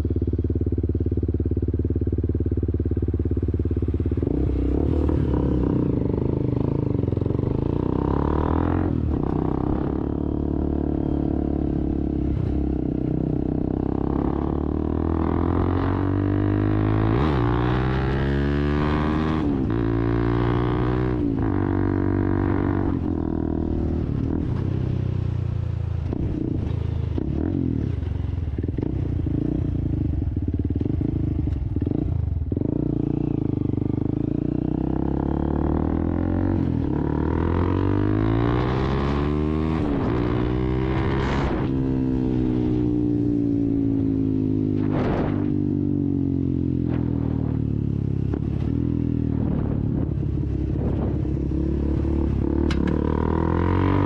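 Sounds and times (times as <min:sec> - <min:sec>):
motorcycle engine revving through gears: 0:00.0 - 0:25.4, 0:26.0 - 0:54.0.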